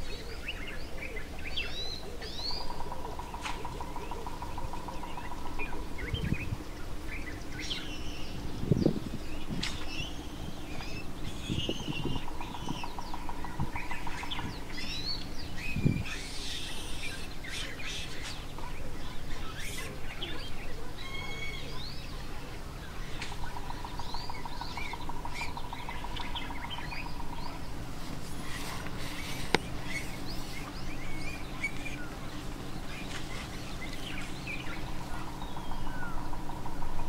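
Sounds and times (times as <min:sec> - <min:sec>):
birds chirping and calling: 0:00.0 - 0:37.0.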